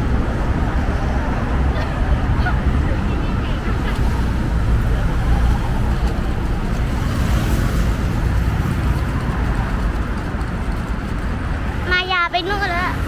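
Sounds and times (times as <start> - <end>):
road traffic: 0.0 - 13.0
stroller wheels rolling over paving: 1.6 - 13.0.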